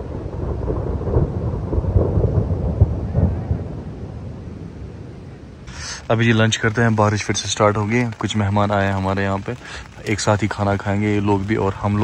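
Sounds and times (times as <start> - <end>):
rain falling: 0.0 - 12.0
thunder rolling: 0.0 - 12.0.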